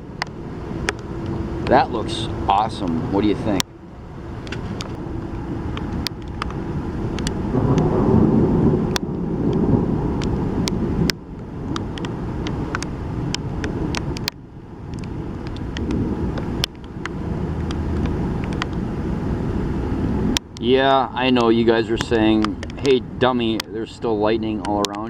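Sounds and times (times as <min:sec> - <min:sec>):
sharp ticks: 0:00.0 - 0:08.0, 0:08.8 - 0:18.9, 0:20.3 - 0:25.0
wind buffeting microphone: 0:00.0 - 0:25.0.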